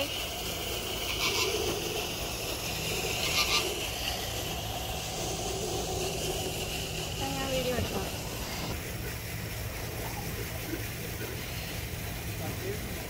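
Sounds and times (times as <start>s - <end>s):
fountain water rushing: 0.0s - 13.0s.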